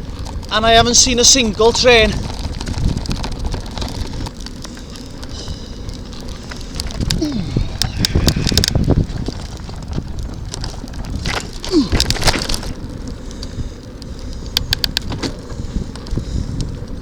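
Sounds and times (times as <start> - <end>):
bike clicks and rattles: 0.0 - 17.0
tyre and wind rumble: 0.0 - 17.0.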